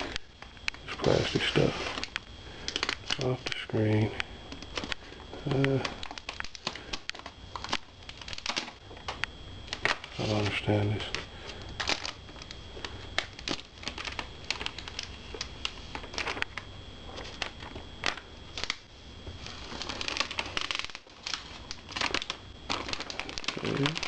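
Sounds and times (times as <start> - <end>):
plastic film crinkling: 0.0 - 24.0.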